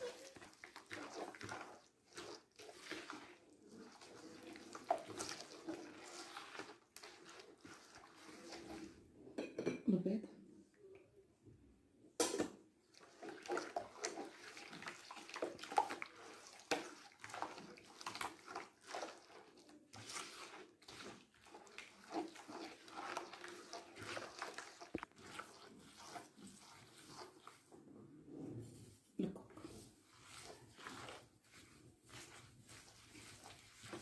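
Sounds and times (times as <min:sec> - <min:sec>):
hand squishing wet batter: 0:00.0 - 0:09.3, 0:12.8 - 0:34.0.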